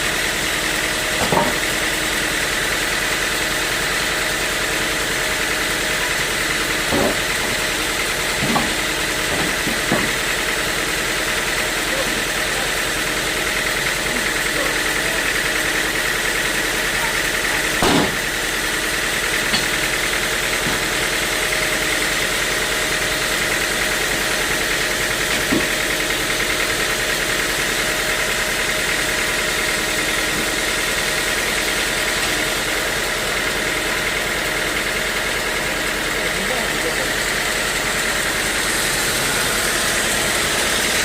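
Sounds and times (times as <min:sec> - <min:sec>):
sawmill machinery humming: 0:00.0 - 0:41.0.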